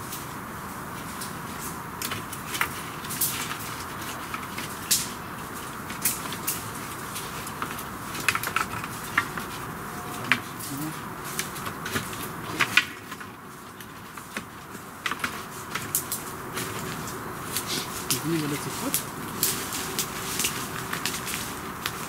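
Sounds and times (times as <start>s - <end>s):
wooden sticks clacking and rubbing: 1.0s - 22.0s.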